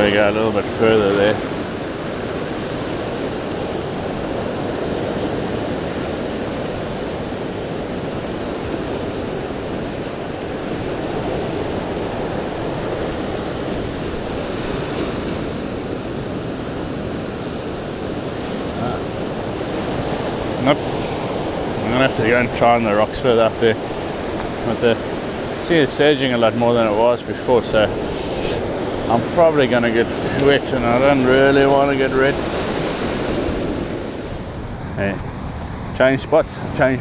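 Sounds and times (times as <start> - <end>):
ocean waves breaking on rocks: 0.0 - 37.0.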